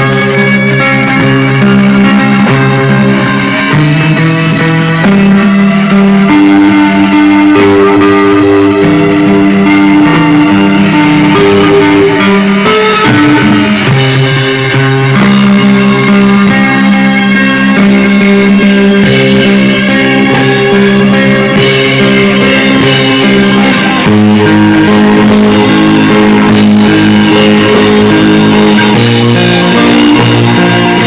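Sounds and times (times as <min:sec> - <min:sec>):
distorted electric guitar: 0:00.0 - 0:31.0
drum kit: 0:00.0 - 0:31.0.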